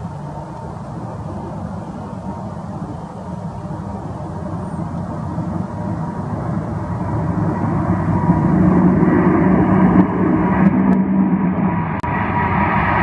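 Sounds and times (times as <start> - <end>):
faint jet whine: 0.0 - 13.0
jet engine rush: 0.0 - 13.0.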